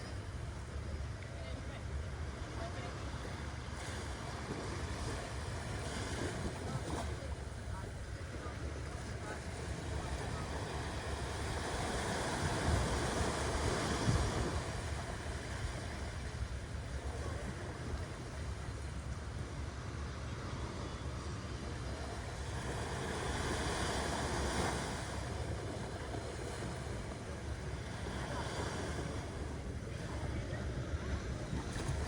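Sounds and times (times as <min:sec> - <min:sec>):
ocean waves washing on beach: 0:00.0 - 0:32.0.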